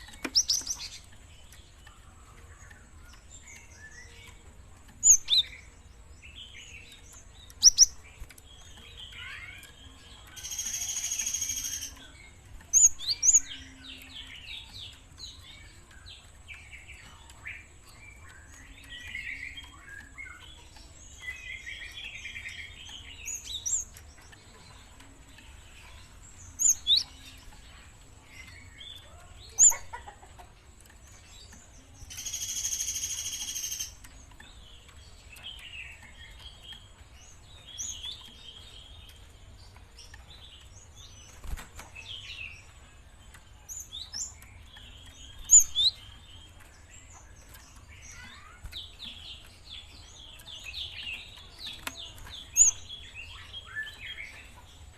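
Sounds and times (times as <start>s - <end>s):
sparrow twittering and chirping: 0.0s - 54.9s.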